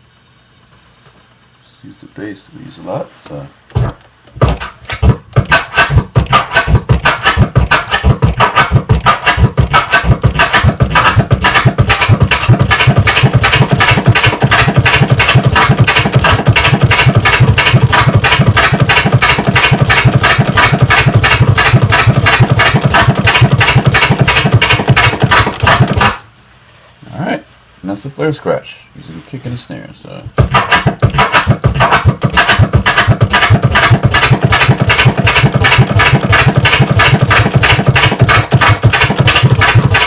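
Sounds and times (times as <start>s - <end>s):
vinyl scratching drum sample: 3.3s - 26.2s, 30.3s - 40.0s.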